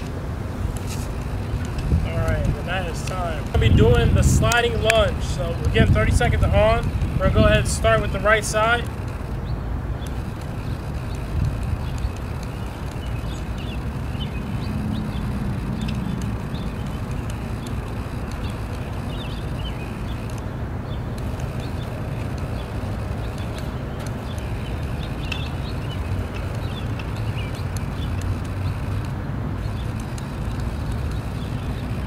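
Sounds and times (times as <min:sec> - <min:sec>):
small birds chirping: 0:00.0 - 0:32.0
steady low rumble: 0:00.0 - 0:32.0.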